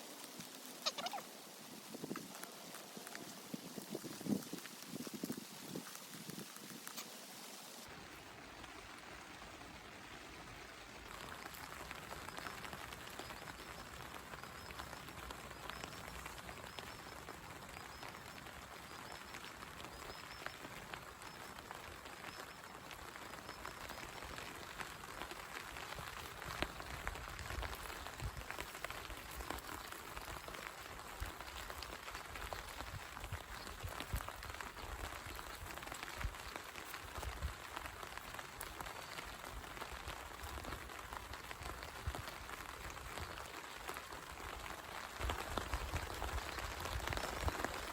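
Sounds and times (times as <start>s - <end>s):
raindrops ticking: 0.0s - 7.9s, 8.5s - 47.9s
steady rain: 0.0s - 47.9s.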